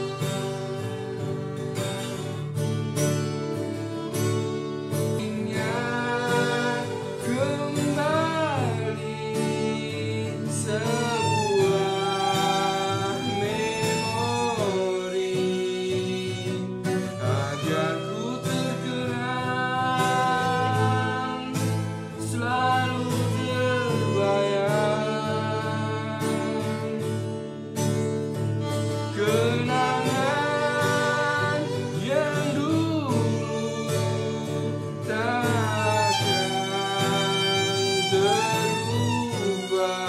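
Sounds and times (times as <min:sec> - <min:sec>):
person singing: 0:00.0 - 0:01.6, 0:04.7 - 0:27.4, 0:28.6 - 0:40.0.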